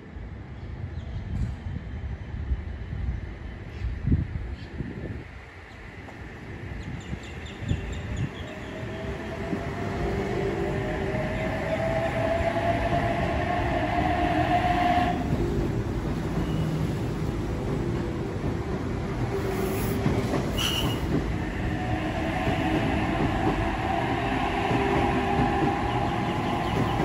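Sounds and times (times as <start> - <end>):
electric train rumble: 4.2 - 27.0.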